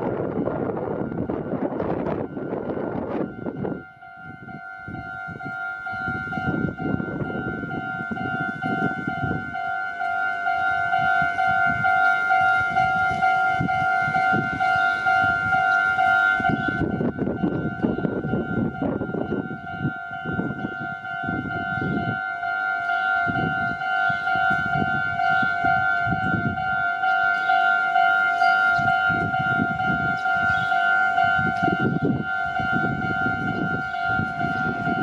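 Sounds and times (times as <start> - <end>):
level crossing warning bell: 0.0 - 35.0
train rumble: 0.0 - 35.0.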